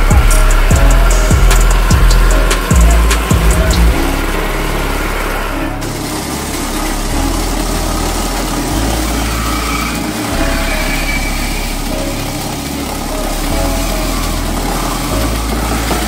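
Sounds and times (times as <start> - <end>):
coconut grating machine droning: 0.0 - 16.0.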